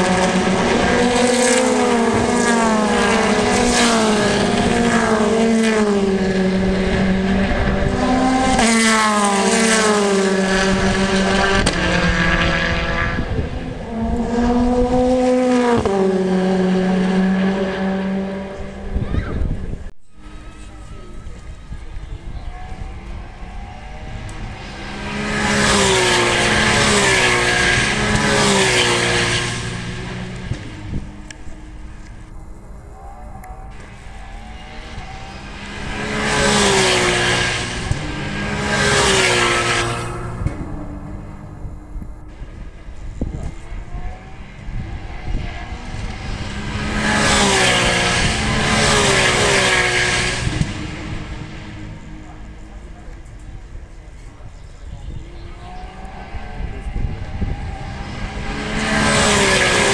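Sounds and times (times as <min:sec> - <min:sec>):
racing cars passing at speed: 0:00.0 - 0:59.9.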